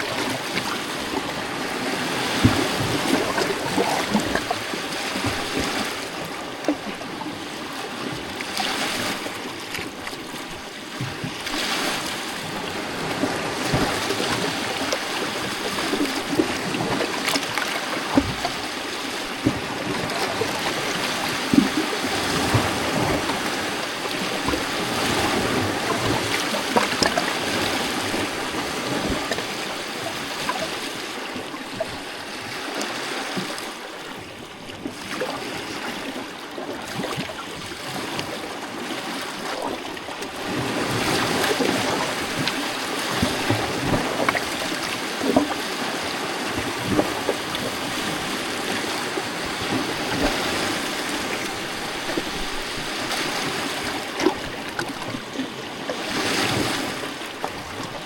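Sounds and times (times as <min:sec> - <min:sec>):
waves lapping on rocky shore: 0:00.0 - 0:58.0.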